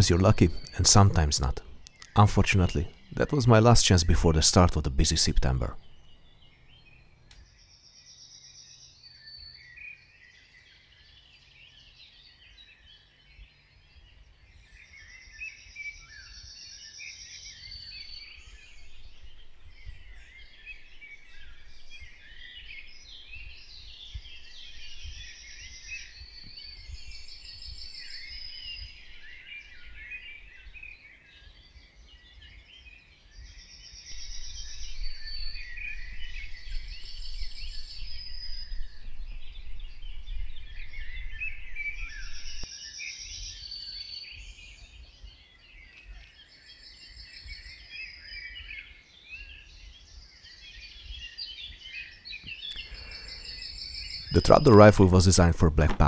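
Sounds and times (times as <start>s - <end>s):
songbirds chorus with trills: 0.0s - 56.0s.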